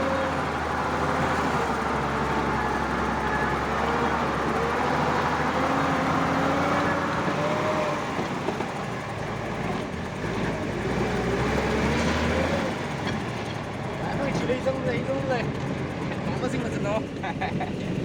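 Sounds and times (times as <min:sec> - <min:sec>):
truck engine hum with whine: 0:00.0 - 0:18.0.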